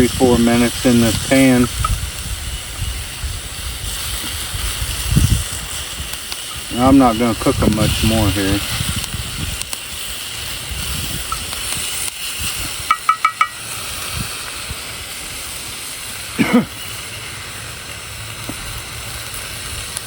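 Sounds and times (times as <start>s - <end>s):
greens sizzling in a pan: 0.0s - 20.0s.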